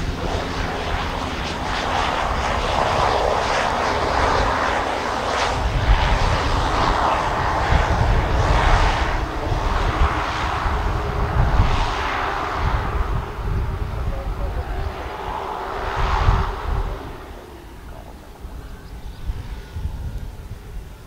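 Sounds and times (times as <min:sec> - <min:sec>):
turboprop engines running: 0:00.0 - 0:21.0.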